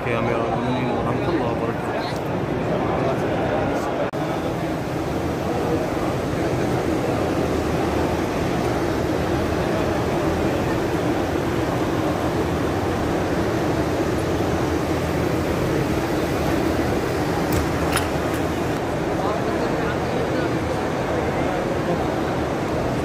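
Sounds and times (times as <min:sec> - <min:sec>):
crowd hubbub: 0:00.0 - 0:23.0.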